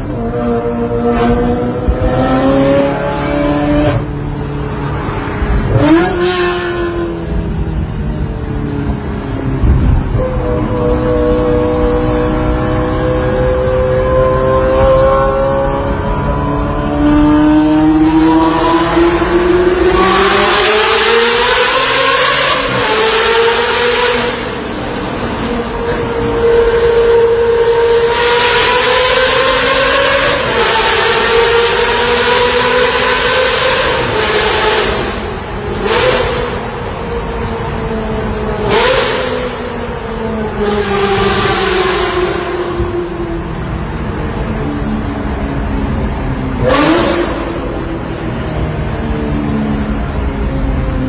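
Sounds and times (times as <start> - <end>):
car engine accelerating in tunnel: 0.0 - 51.0.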